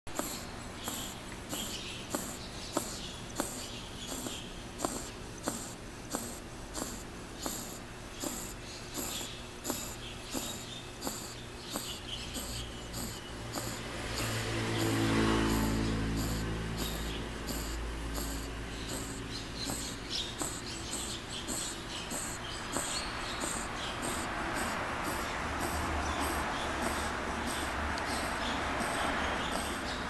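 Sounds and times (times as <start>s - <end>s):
puppy snoring snorts: 0.1s - 30.0s
high rapid chirping: 0.2s - 30.0s.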